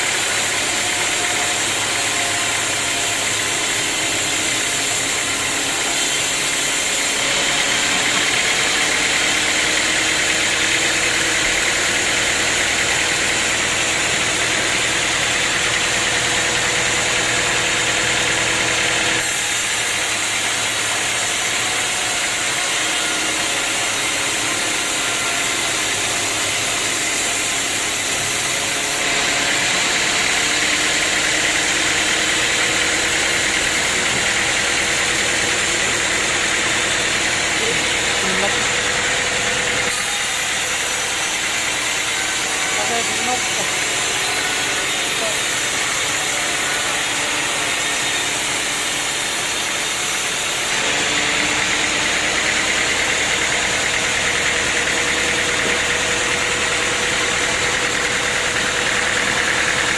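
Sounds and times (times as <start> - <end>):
sawmill machinery whining: 0.0 - 59.9.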